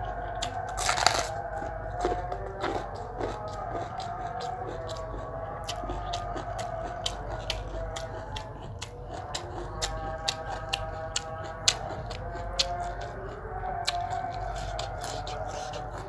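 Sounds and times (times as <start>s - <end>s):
chewing crunches: 0.0s - 16.0s.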